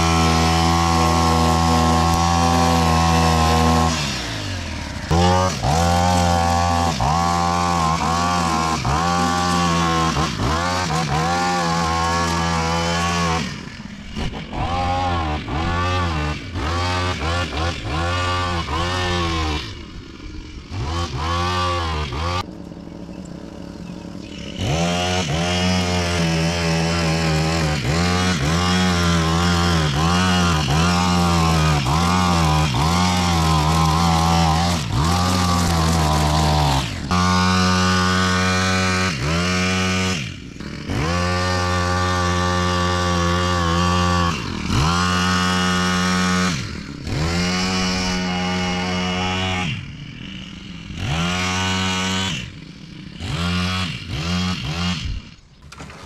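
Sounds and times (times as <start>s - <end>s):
string trimmer engine running: 0.0s - 56.0s.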